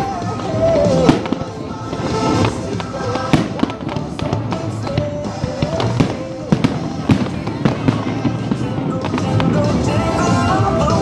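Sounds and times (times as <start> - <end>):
fireworks bursting with bangs: 0.0 - 11.0
melodic music: 0.0 - 11.0.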